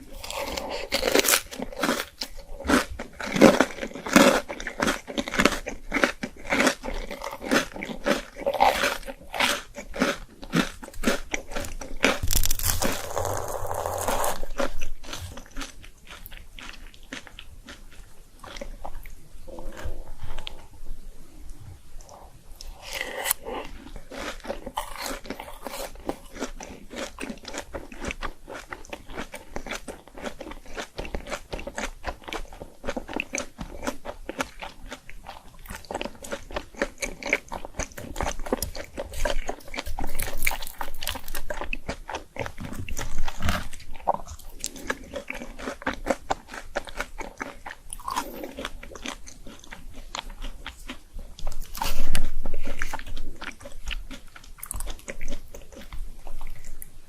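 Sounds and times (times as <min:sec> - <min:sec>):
crunchy food chewing: 0:00.0 - 0:20.7, 0:22.0 - 0:57.0.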